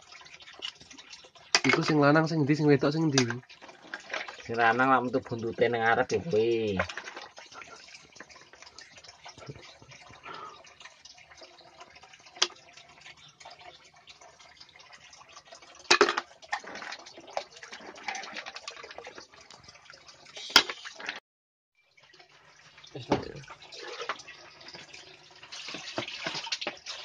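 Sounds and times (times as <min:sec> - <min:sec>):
water splashing and dripping: 0:00.0 - 0:21.2, 0:21.8 - 0:27.0.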